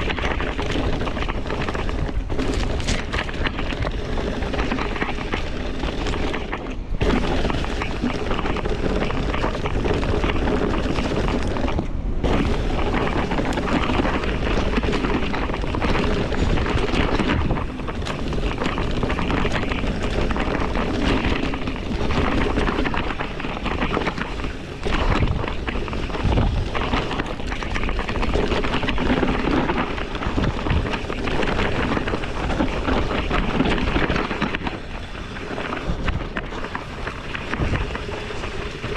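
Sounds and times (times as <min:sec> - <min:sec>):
bike rattling over rough trail: 0:00.0 - 0:38.9
wind buffeting microphone: 0:00.0 - 0:38.9.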